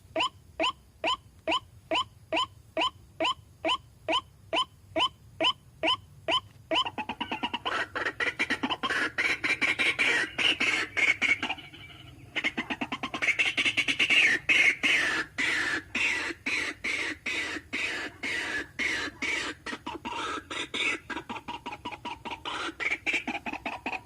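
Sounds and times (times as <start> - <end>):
waterhen calling: 0.2 - 24.0.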